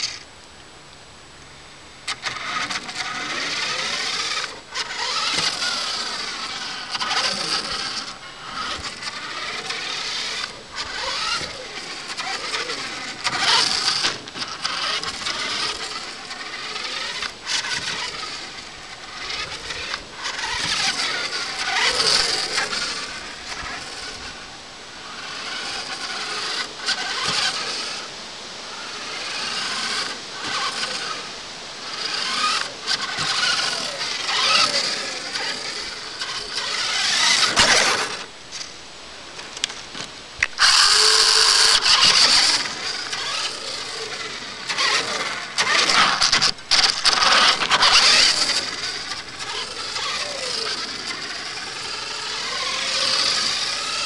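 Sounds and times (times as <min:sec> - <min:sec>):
toy car electric motor whining: 0:00.0 - 0:00.2, 0:02.0 - 0:38.7, 0:39.4 - 0:54.0.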